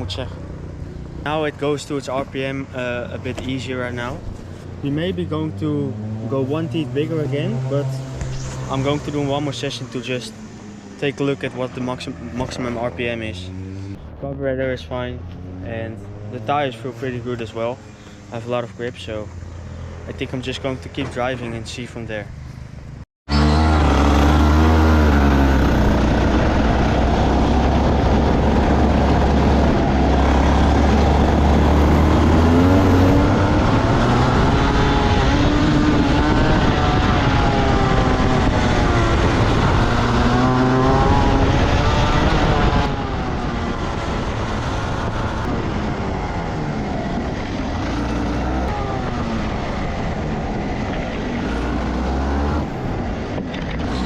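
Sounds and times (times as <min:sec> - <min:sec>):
kart engine revving: 0:00.0 - 0:14.0, 0:15.3 - 0:21.6, 0:23.3 - 0:54.0.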